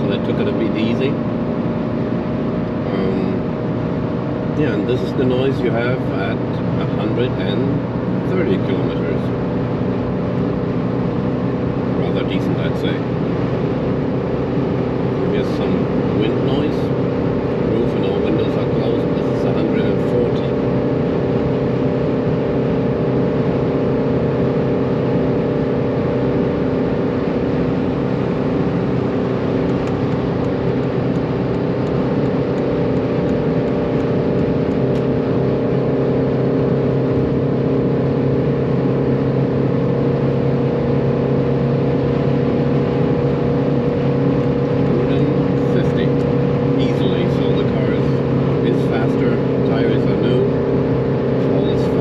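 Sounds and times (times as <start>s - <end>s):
diesel engine drone: 0.0s - 52.0s
wind and road noise: 0.0s - 52.0s.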